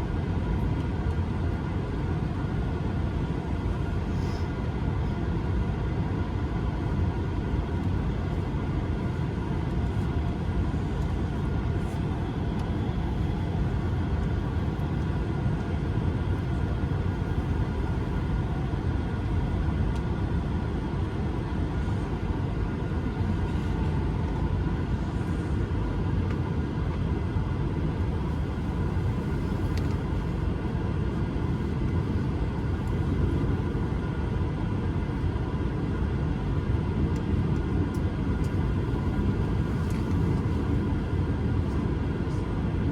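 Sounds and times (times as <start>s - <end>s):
aircraft cabin low rumble: 0.0s - 42.9s
jet engines humming at idle: 0.0s - 42.9s.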